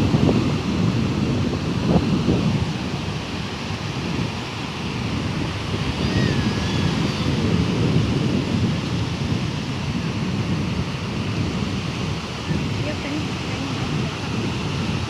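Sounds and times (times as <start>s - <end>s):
sea surf: 0.0s - 15.0s
wind buffeting the microphone: 0.0s - 15.0s.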